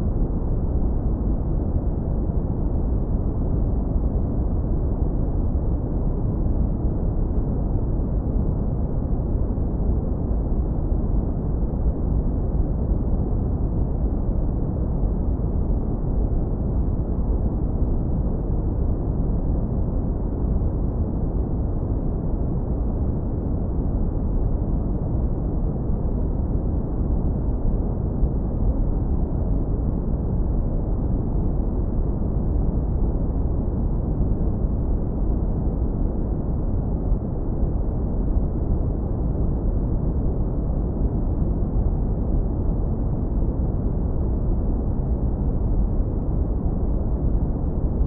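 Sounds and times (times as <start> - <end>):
deep brown noise rumble: 0.0 - 48.0.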